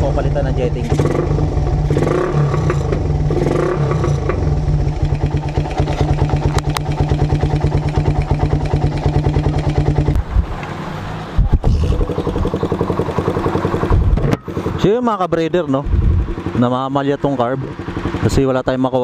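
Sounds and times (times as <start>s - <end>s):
motorcycle engine revving and idling: 0.0s - 10.8s, 11.4s - 19.0s.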